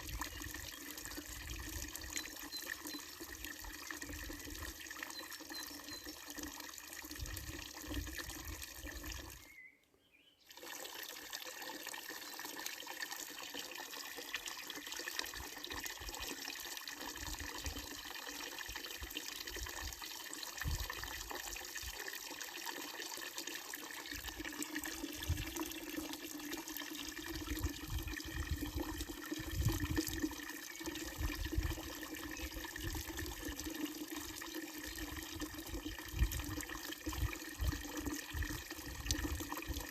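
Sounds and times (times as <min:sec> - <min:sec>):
water splashing into fountain basin: 0:00.0 - 0:09.5, 0:10.5 - 0:39.9.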